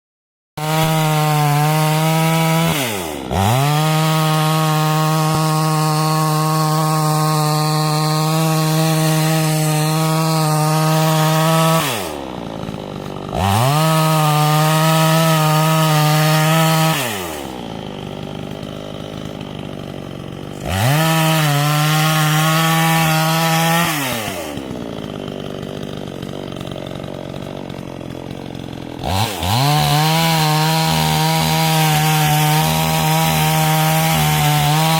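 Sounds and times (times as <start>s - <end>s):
chainsaw cutting wood: 0.6s - 34.9s
chainsaw idling: 0.6s - 34.9s.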